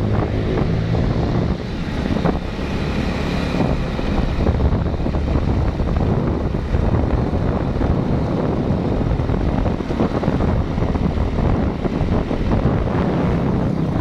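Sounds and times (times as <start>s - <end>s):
vehicle rumbling along road: 0.0s - 14.0s
wind buffeting microphone: 0.0s - 14.0s.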